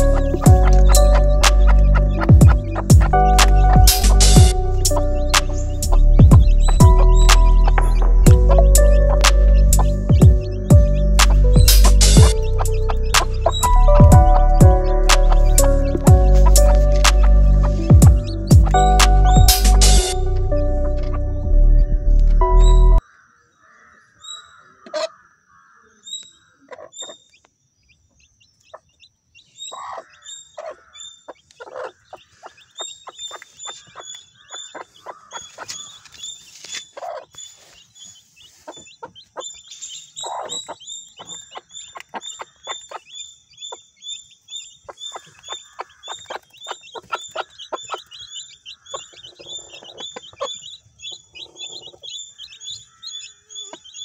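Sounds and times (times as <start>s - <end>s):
hen clucking: 0.0s - 20.2s, 24.4s - 25.2s, 29.6s - 43.8s, 44.6s - 54.0s
chicks peeping: 0.0s - 23.0s, 23.7s - 54.0s.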